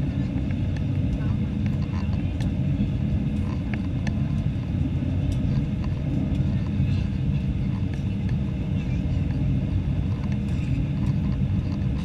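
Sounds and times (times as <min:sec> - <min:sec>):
airplane cabin rumble: 0:00.0 - 0:12.0
faint steady hum: 0:00.0 - 0:12.0.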